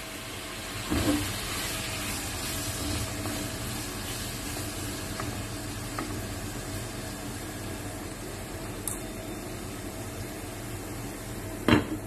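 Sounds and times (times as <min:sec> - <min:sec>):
tomatoes sizzling in a pan: 0:00.0 - 0:12.0.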